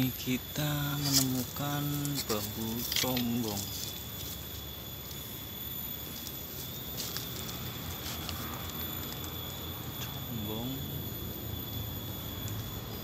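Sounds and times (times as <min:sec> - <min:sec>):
high-pitched insect trill: 0:00.0 - 0:13.0.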